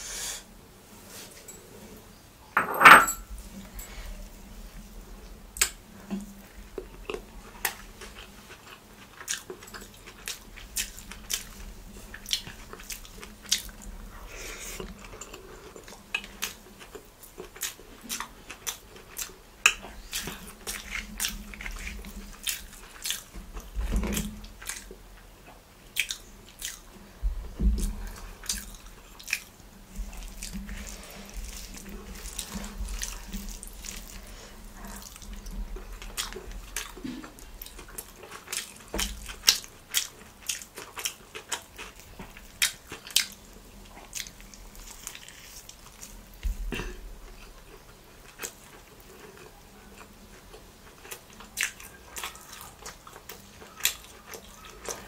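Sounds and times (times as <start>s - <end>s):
chewing with wet mouth smacks: 6.8s - 14.0s, 14.7s - 26.9s, 27.8s - 55.0s.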